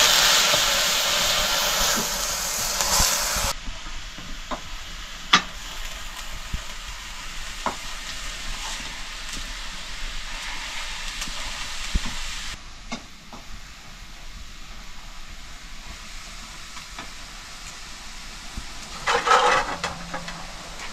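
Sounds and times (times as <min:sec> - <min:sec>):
food sizzling in hot oil: 0:00.0 - 0:12.6, 0:13.2 - 0:20.9.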